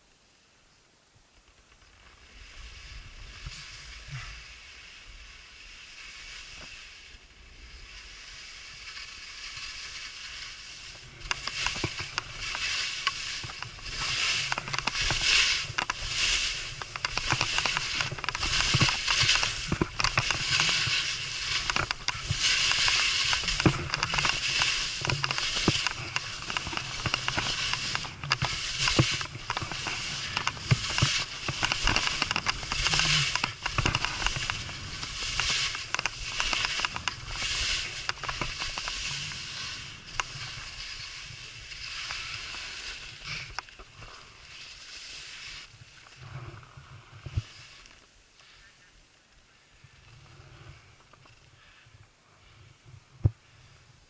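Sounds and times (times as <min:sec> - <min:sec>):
skis scraping over snow: 0:01.4 - 0:48.7
ski clatters: 0:01.5 - 0:47.9.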